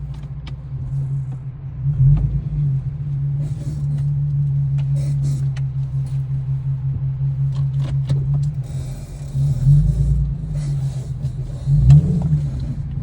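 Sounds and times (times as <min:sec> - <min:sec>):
road and engine drone: 0:00.0 - 0:13.0
suspension thumps over bumps: 0:00.0 - 0:13.0.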